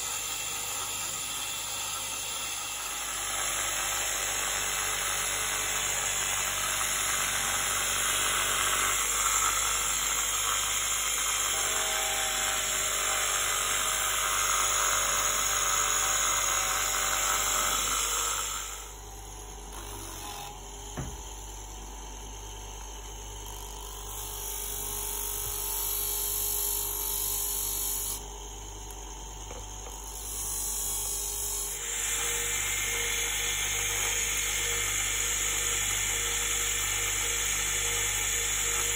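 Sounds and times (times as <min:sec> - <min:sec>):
bench grinder motor hum: 0:00.0 - 0:38.9.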